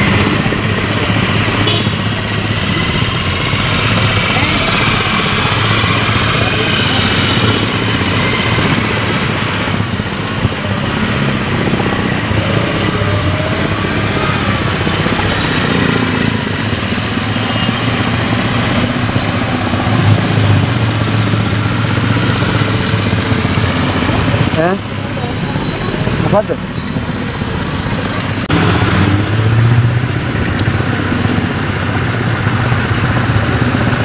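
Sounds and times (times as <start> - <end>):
engines running slowly: 0.0 - 34.0
traffic noise: 0.0 - 34.0.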